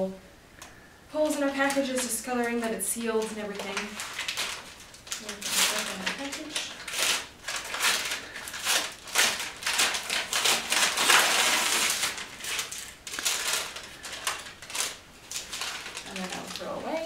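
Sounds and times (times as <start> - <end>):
packaging crinkling and rustling: 1.2 - 17.0.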